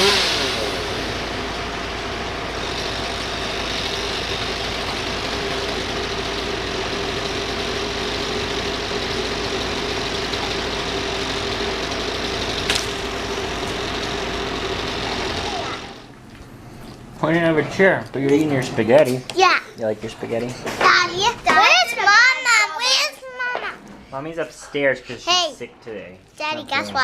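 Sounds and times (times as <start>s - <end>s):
engine humming steadily: 0.0s - 21.8s.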